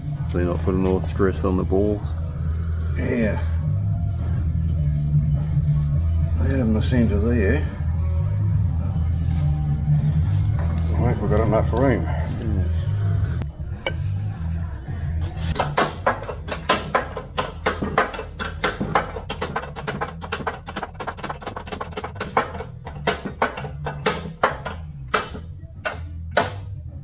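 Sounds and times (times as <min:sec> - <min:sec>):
background music with bass: 0:00.0 - 0:27.0.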